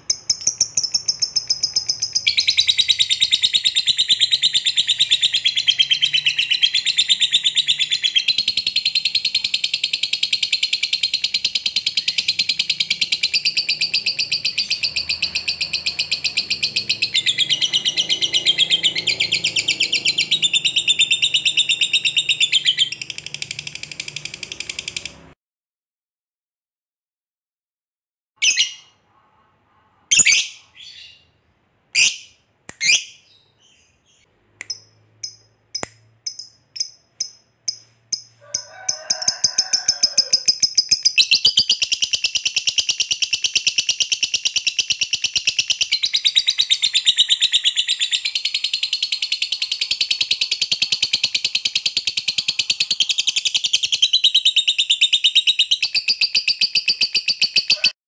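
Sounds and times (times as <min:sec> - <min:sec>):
bird rapid chirping chatter: 0:00.0 - 0:25.3, 0:30.1 - 0:31.3, 0:32.0 - 0:38.7, 0:40.3 - 0:57.9.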